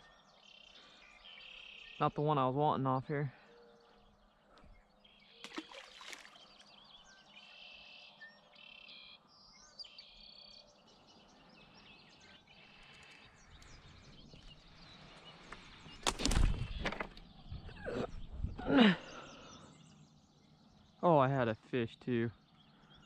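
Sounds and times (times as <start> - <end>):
birds singing buzzy trills: 0.0 - 23.0.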